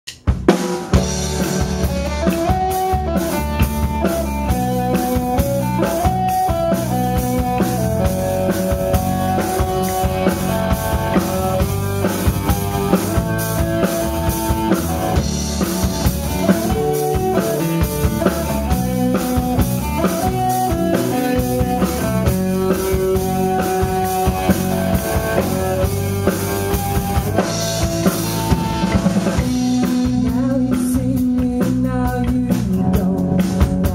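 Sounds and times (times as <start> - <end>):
drum kit beat: 0.0 - 33.9
bass guitar: 0.1 - 33.9
electric guitar figure: 0.8 - 31.4.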